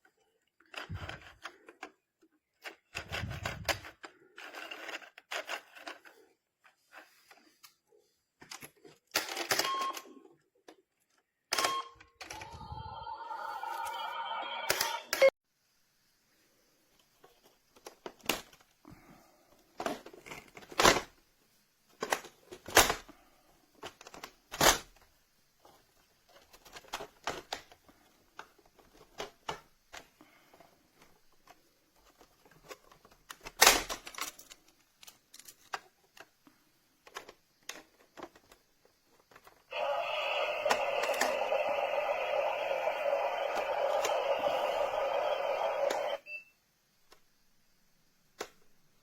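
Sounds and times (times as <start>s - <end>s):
plastic toy bus being handled: 0.0s - 11.4s, 16.8s - 46.1s, 48.2s - 49.0s.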